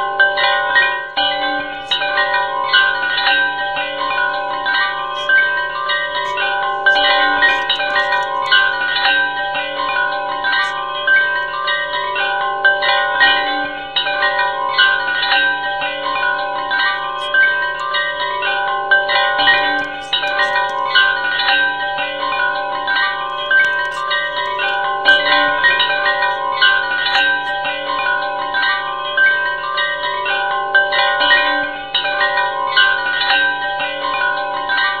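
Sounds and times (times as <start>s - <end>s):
chime-like background music: 0.0s - 35.0s.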